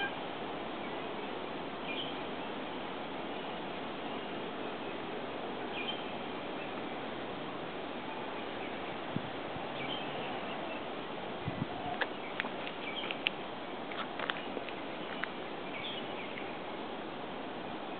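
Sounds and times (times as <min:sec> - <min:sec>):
steady background hiss: 0:00.0 - 0:17.9.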